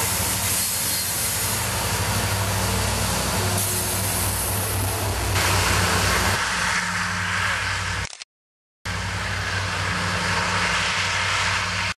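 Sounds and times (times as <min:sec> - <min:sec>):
train wheel and rail noise: 0:00.0 - 0:08.1, 0:08.9 - 0:12.0
diesel engine drone: 0:00.0 - 0:08.2, 0:08.9 - 0:12.0.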